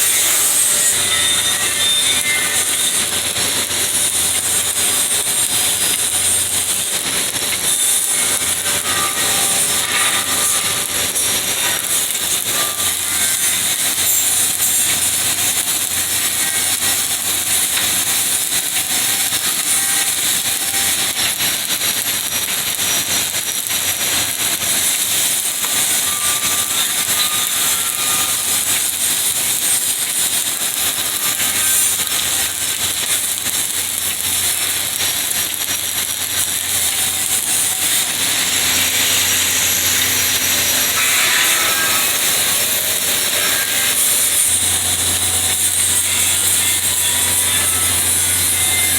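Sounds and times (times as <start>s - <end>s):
welding arc crackling hiss: 0.0s - 48.9s.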